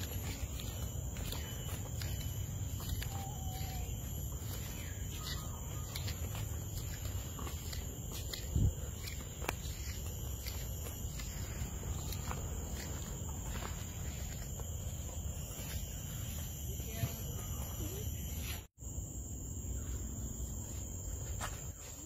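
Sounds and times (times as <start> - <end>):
footsteps: 0.0 - 18.7, 20.6 - 22.0
high-pitched insect drone: 0.0 - 22.0.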